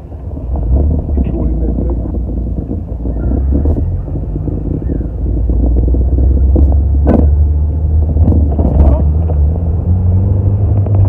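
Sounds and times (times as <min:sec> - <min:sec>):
car engine rumbling through exhaust: 0:00.0 - 0:11.0.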